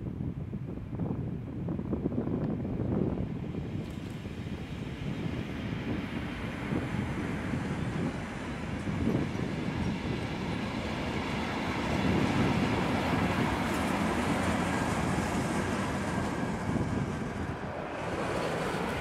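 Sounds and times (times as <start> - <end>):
freight train wheels rumbling: 1.0 - 19.0.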